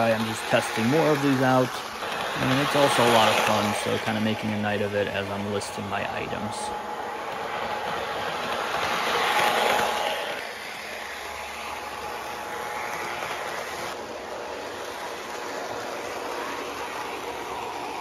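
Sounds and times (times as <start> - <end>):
model trains running on track: 0.0 - 18.0.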